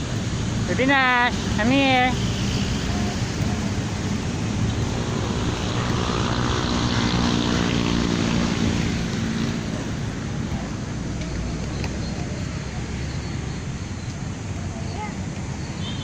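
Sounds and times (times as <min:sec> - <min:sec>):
traffic: 0:00.0 - 0:16.0
wind: 0:00.0 - 0:16.0.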